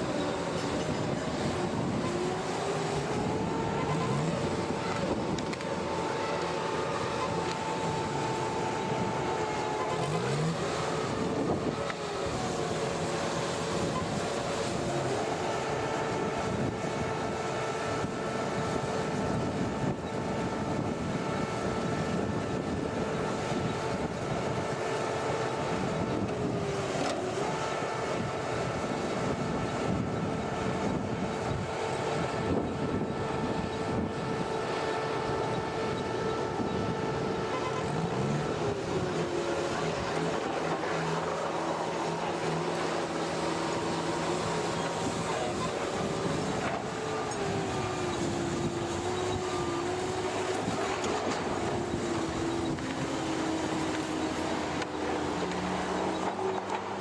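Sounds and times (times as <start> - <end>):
heavy machine engine whining: 0.0 - 57.0.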